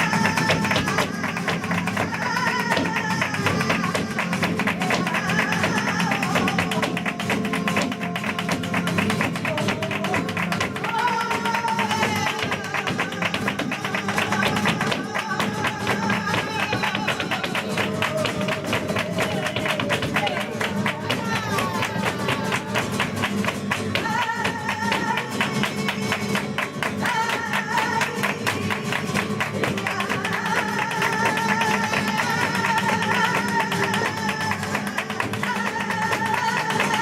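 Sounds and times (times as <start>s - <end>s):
guitar: 0.0s - 37.0s
rapid dance footwork taps: 0.0s - 37.0s.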